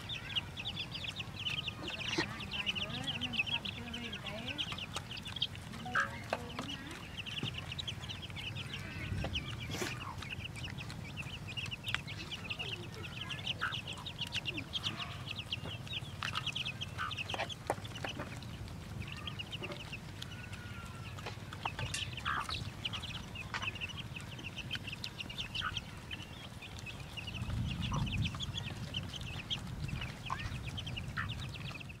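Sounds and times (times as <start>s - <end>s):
chicks peeping: 0.0s - 32.0s
hen clucking: 0.0s - 32.0s
beaks tapping metal plate: 0.2s - 27.2s.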